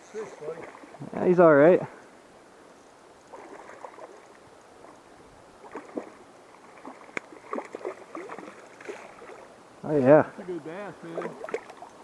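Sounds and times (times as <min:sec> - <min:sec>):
water splashing and sloshing: 0:00.0 - 0:01.5, 0:03.1 - 0:12.0.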